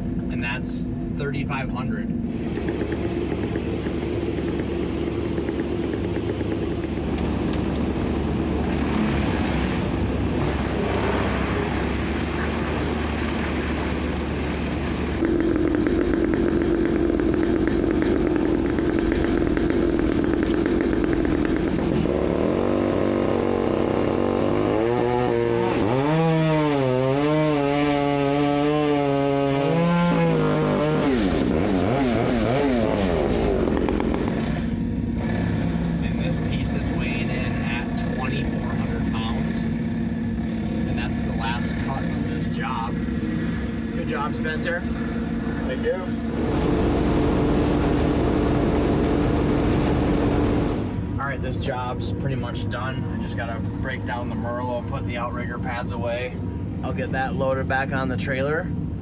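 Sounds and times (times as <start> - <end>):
engines running: 0.0 - 59.0
engine revving: 2.2 - 59.0.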